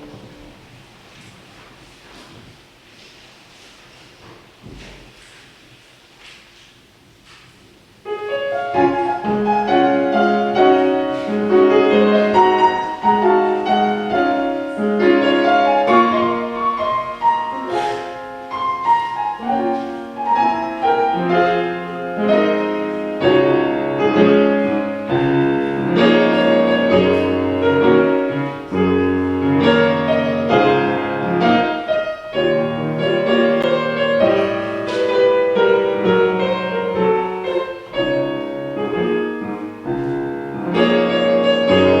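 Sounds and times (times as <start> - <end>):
piano playing: 0.0 - 0.7, 8.0 - 42.0.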